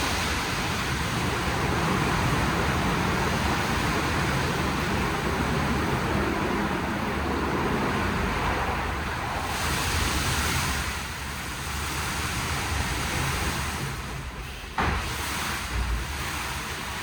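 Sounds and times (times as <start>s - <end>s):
car wash water spray and machinery: 0.0s - 17.0s.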